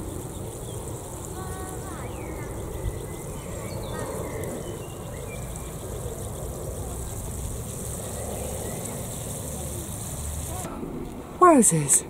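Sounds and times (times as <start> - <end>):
watering can sprinkling onto soil: 0.0 - 10.7.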